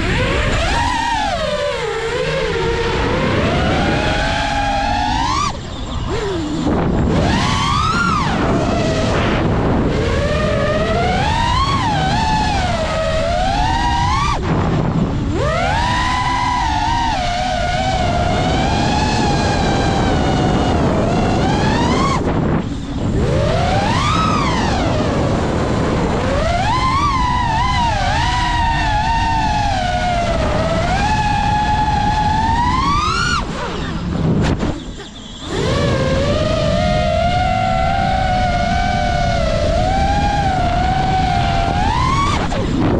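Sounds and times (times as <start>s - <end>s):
drone motors whining: 0.0s - 42.9s
wind rushing: 0.0s - 42.9s.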